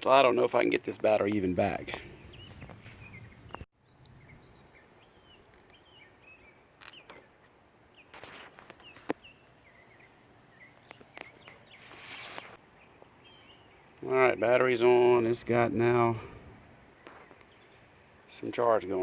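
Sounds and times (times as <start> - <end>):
birds chirping faintly: 0.0 - 19.0
rustle: 1.0 - 19.0.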